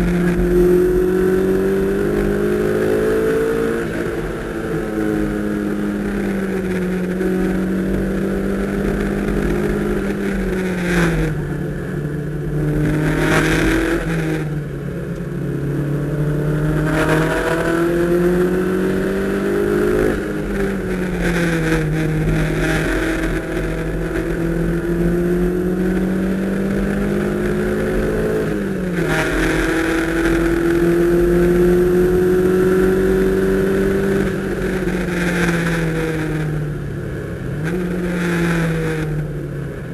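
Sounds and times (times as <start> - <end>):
car engine at hard throttle: 0.0 - 39.9.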